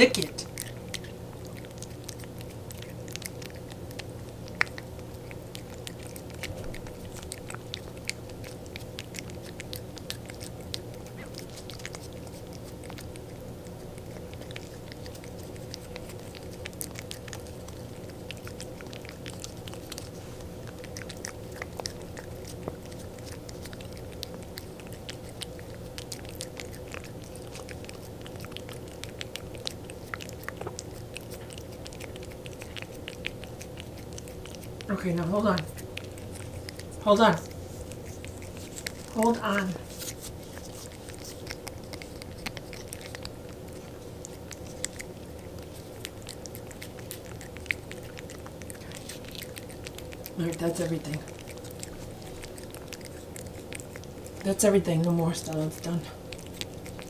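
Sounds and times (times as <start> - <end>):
steady low hum: 0.0 - 57.0
cat tongue licking smacks: 0.1 - 57.0.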